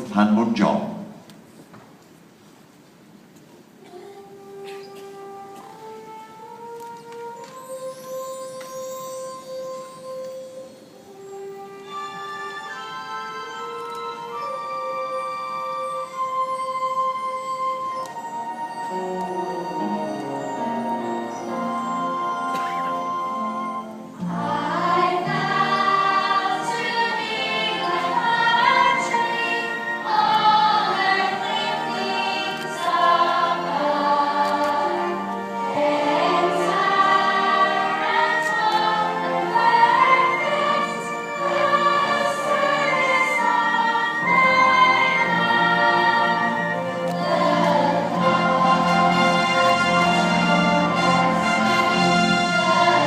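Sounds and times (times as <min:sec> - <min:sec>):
slow melodic music: 0:03.8 - 0:53.0.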